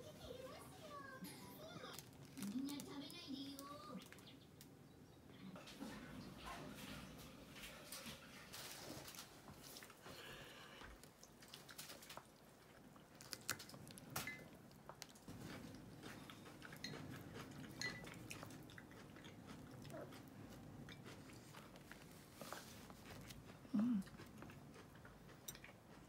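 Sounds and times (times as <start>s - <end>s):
soft chewing and biting: 1.2s - 4.7s, 7.6s - 26.0s.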